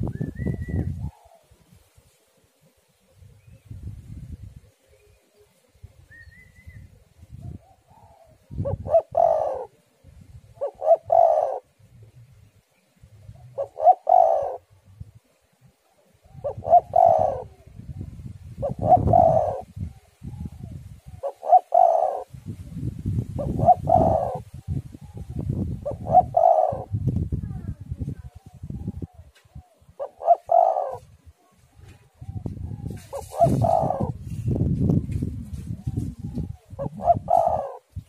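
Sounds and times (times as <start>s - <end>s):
dove cooing: 0.0s - 1.8s, 4.6s - 9.9s, 10.5s - 12.2s, 13.2s - 15.0s, 15.8s - 22.4s, 23.3s - 34.6s, 35.2s - 38.0s
wind on microphone: 0.0s - 1.8s, 3.1s - 4.8s, 5.8s - 38.0s.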